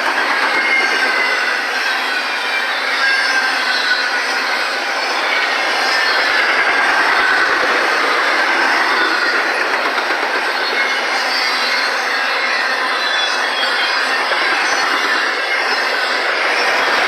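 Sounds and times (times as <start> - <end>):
freight train wheels rumbling: 0.0 - 17.0
high wheel squeal: 0.0 - 17.0.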